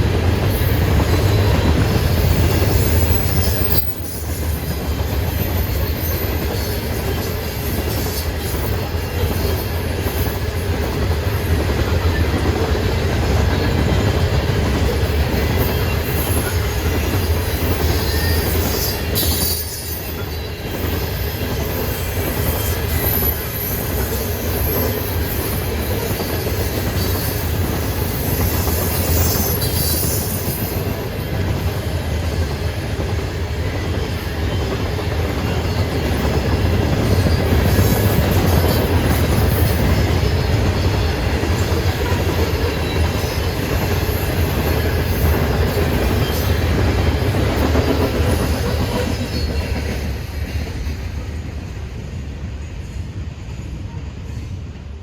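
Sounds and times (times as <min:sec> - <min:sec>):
train wheels rumbling on rails: 0:00.0 - 0:55.0
high squeals from wheels: 0:00.4 - 0:12.4, 0:14.9 - 0:32.3, 0:33.6 - 0:50.9.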